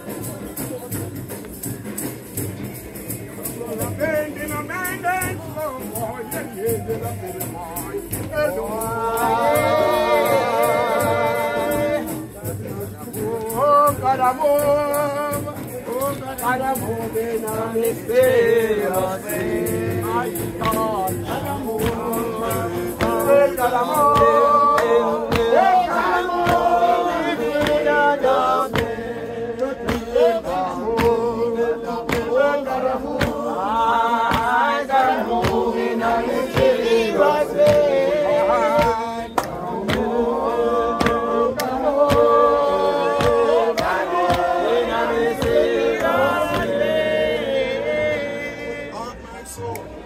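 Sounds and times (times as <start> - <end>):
sharp percussive hits: 0.0 - 47.2
group singing a chant: 0.0 - 50.0.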